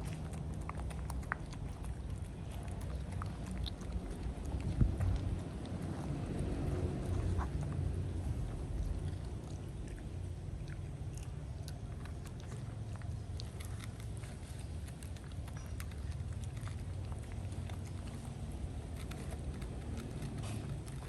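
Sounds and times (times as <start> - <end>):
dog chewing food: 0.0 - 21.0
steady low rumble: 0.0 - 21.0.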